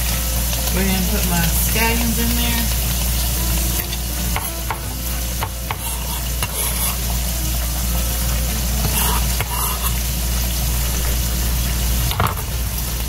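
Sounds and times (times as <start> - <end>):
herbs sizzling in hot oil: 0.0 - 13.0.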